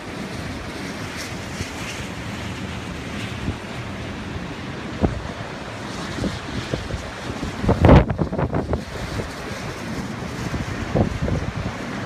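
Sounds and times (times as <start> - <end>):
surf waves breaking: 0.0 - 12.0
wind blowing on microphone: 0.0 - 12.0.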